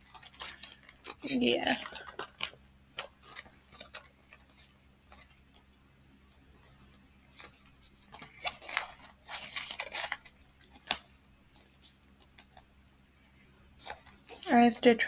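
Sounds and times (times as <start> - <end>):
wallet rustling: 0.0 - 5.7, 7.3 - 12.6, 13.8 - 14.9.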